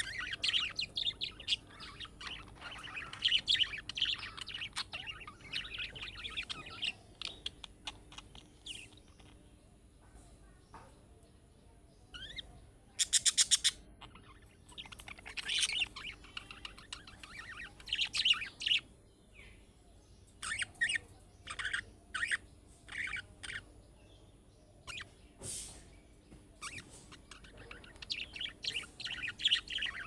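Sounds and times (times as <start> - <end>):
budgerigar chirping and chattering: 0.0 - 9.6, 12.1 - 19.6, 20.3 - 23.9, 24.8 - 25.3, 26.6 - 30.0.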